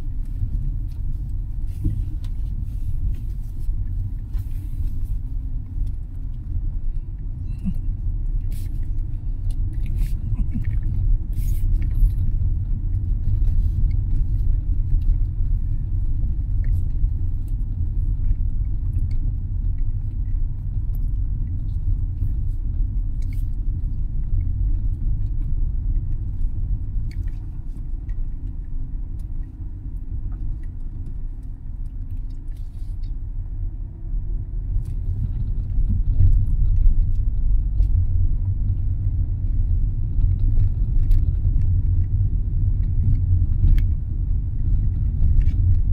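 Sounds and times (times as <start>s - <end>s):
vehicle rumble: 0.0s - 45.9s.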